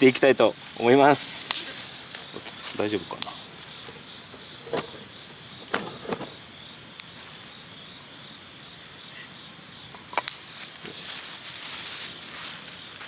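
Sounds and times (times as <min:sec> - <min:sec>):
insects chirping drone: 0:00.0 - 0:13.0.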